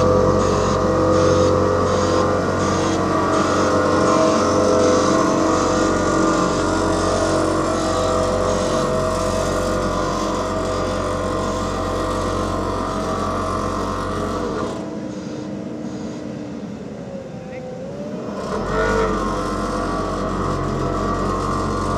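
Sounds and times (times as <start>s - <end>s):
diesel machinery engine running: 0.0s - 21.9s.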